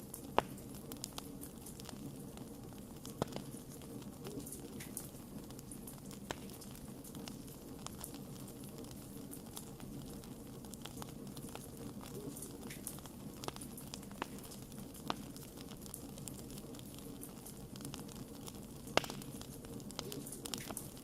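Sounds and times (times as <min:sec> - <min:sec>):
campfire crackling and popping: 0:00.0 - 0:21.0
low steady background noise: 0:00.0 - 0:21.0.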